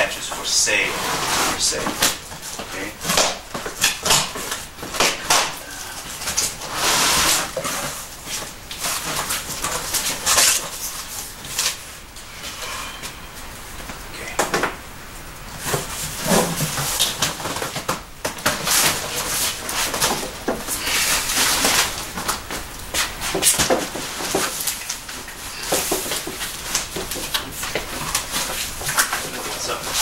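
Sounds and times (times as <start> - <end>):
cardboard boxes rustling: 0.3 - 12.4, 15.5 - 30.0.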